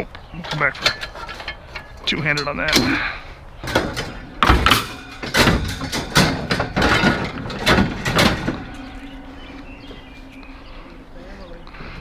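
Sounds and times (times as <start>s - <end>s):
scrap metal bangs and clanks: 0.4s - 12.0s.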